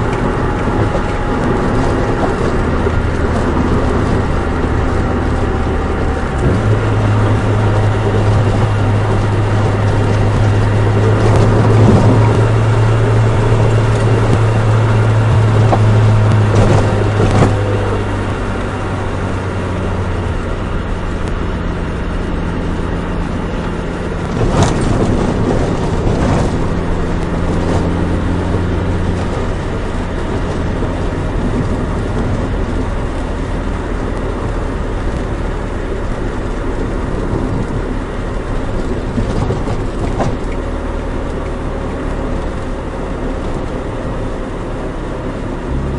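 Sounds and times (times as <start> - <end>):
car engine droning: 0.0 - 45.9
road noise: 0.0 - 45.9.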